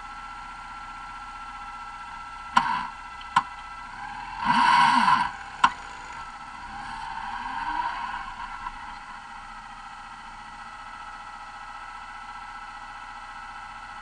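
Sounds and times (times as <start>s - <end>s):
buggy engines running: 0.0s - 14.0s.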